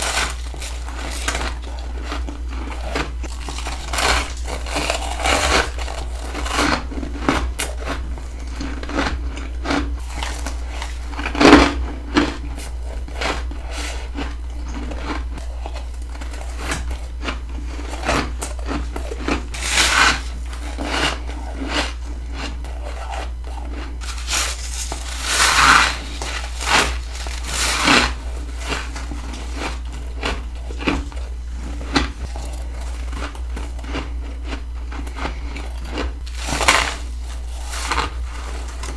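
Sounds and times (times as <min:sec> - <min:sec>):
chewing crunchy frost: 0:00.0 - 0:38.9
steady low hum: 0:00.0 - 0:38.9.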